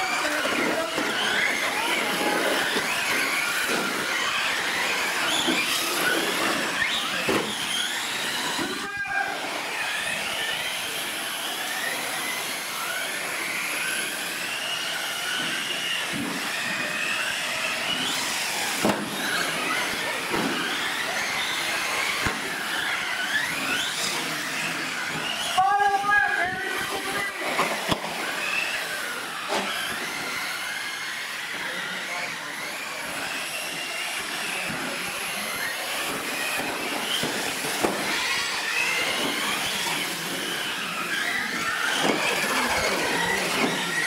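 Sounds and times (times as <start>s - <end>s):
rc truck motors whining: 0.0s - 44.0s.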